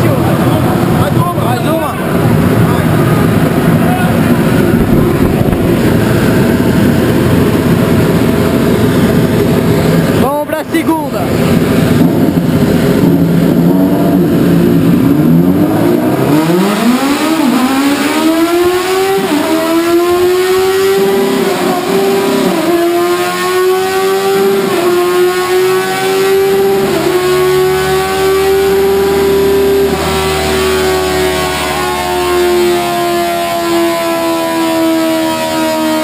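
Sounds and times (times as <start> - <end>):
motorcycle engine at full throttle: 0.0 - 36.0.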